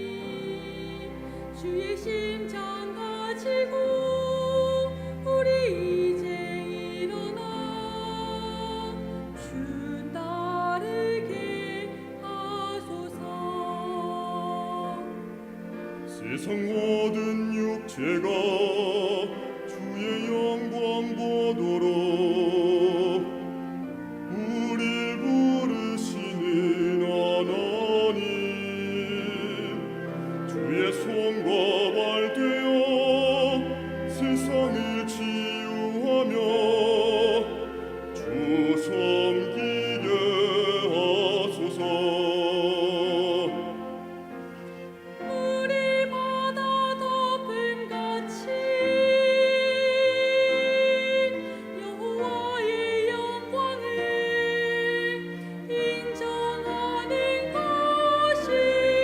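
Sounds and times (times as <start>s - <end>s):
choir accompaniment: 0.0s - 59.0s
church choir singing: 0.0s - 59.0s.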